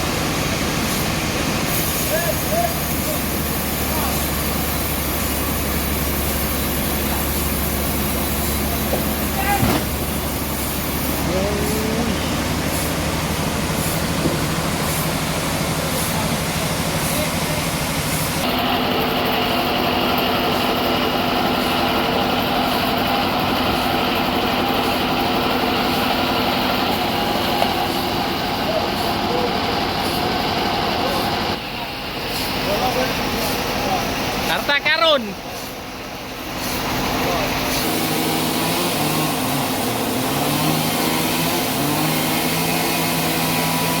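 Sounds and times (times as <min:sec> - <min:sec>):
sawmill machinery humming: 0:00.0 - 0:44.0.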